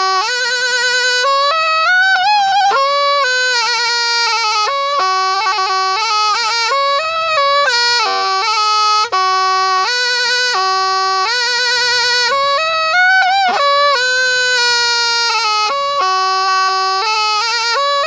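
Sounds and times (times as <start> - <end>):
reed pipe melody: 0.0 - 18.0.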